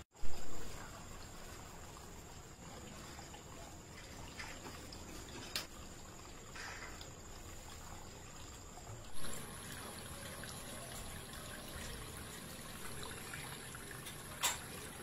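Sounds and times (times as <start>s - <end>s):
water trickling over fountain: 0.2s - 15.0s.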